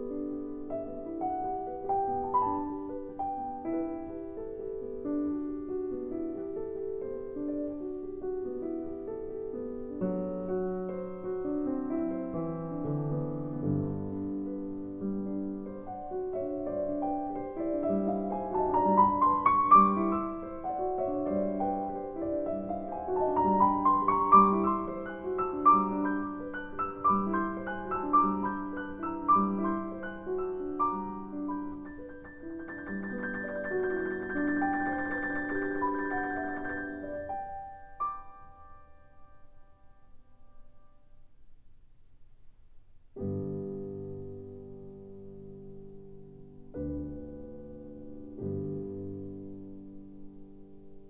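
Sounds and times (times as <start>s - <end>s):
gentle piano music: 0.0s - 41.3s, 43.1s - 51.0s.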